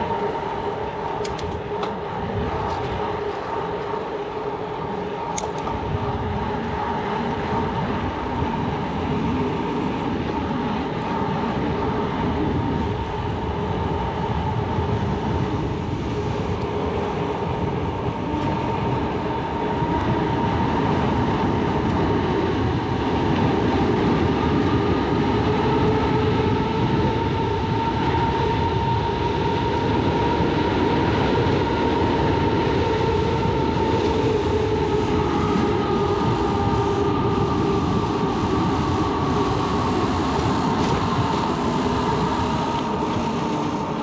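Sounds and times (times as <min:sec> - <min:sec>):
bicycle tyre noise on road: 0:00.0 - 0:44.0
wind rushing over microphone: 0:00.0 - 0:44.0.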